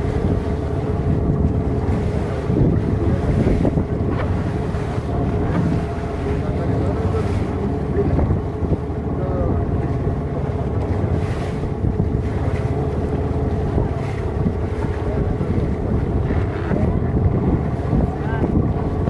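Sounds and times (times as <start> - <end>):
boat engine running: 0.0 - 19.0
water splashing along hull: 0.0 - 19.0
wind buffeting microphone: 0.0 - 19.0.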